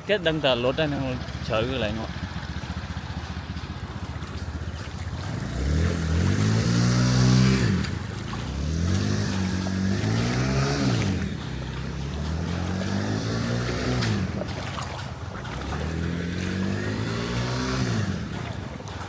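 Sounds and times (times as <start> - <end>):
vehicle engines accelerating past: 0.6 - 19.0.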